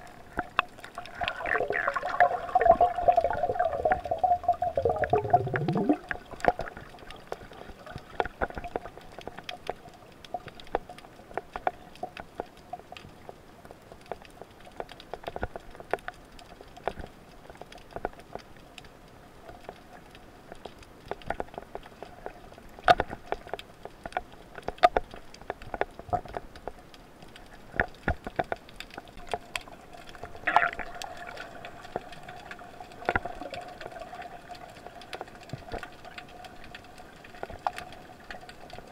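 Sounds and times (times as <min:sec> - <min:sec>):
underwater clicks and crackles: 0:00.0 - 0:38.9.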